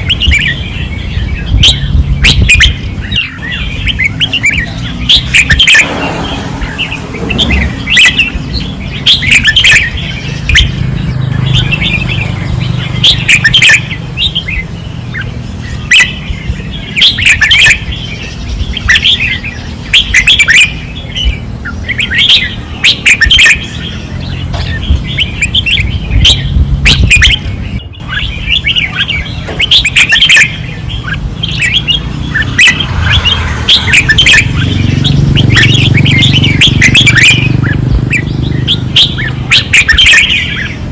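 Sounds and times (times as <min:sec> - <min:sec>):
birds singing chattering phrases: 0:00.0 - 0:40.9.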